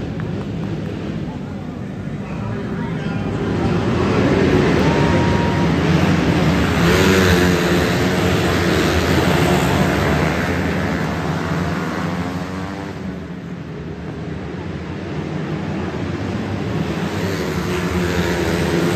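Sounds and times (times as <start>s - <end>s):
race car engines passing: 0.0s - 18.9s.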